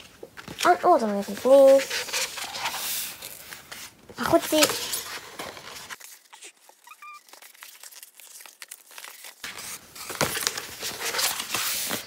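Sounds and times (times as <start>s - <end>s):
paper posters rustling: 0.0s - 12.0s.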